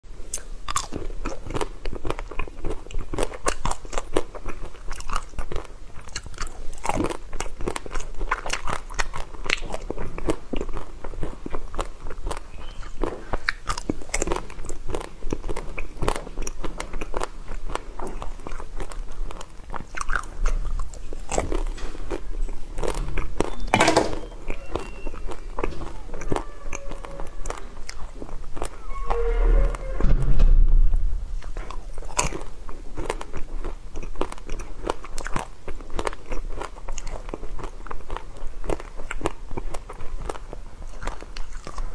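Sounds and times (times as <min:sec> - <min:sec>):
crunchy chewing: 0:00.2 - 0:28.9, 0:31.4 - 0:41.9.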